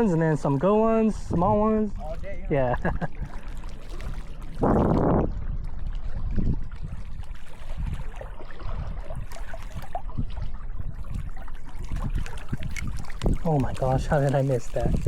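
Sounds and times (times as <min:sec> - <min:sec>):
water trickling and lapping: 0:00.0 - 0:15.0
wind on microphone: 0:00.0 - 0:15.0.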